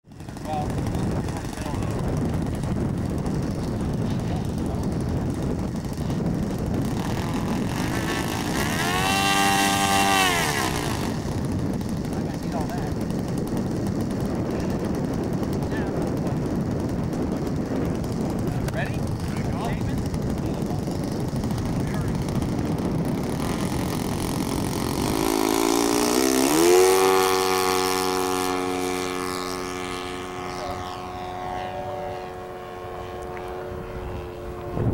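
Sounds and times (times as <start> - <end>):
model airplane engine revving: 0.0 - 34.9.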